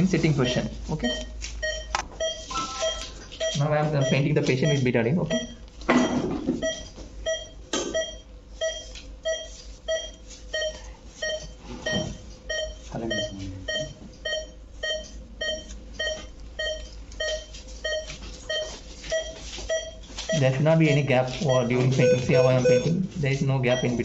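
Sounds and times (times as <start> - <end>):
pulse monitor beeps: 0.0 - 24.0.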